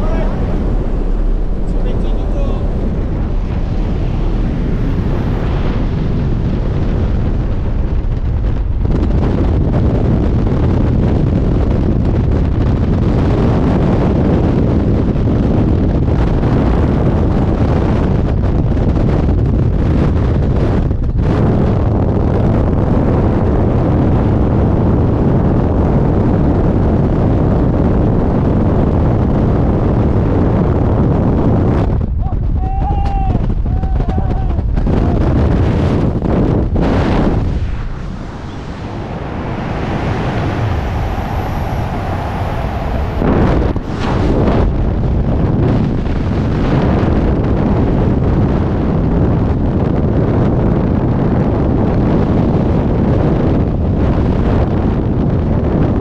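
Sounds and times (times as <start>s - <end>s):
wind rushing over microphones: 0.0s - 56.0s.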